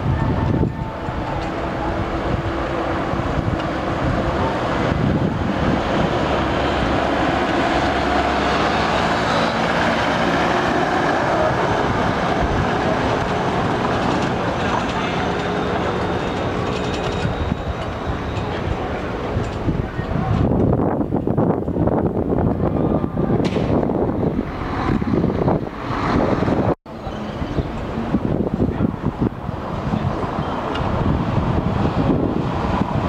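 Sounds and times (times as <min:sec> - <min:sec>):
engine hum: 0:00.0 - 0:33.0
tyre noise on paving: 0:00.0 - 0:33.0.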